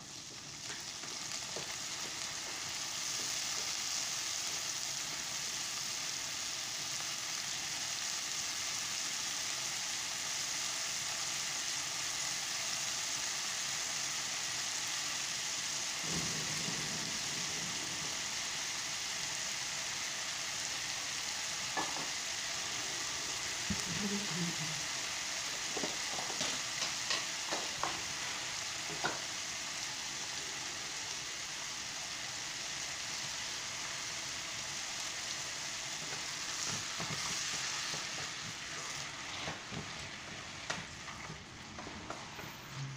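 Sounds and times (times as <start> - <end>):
potatoes sizzling in a pan: 0.0 - 42.9.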